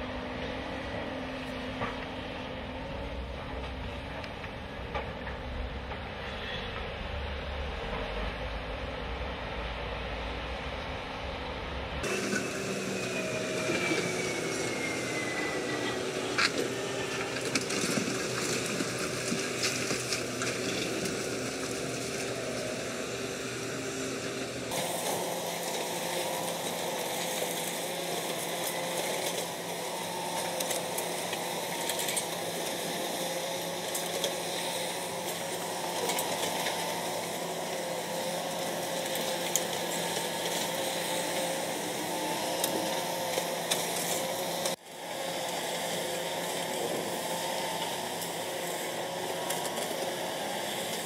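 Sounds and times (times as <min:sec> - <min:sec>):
excavator whining: 0:00.0 - 0:51.0.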